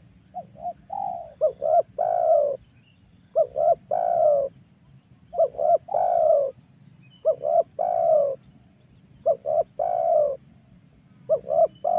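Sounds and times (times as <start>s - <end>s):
dove cooing: 0.0s - 4.6s, 5.3s - 6.6s, 7.2s - 11.9s.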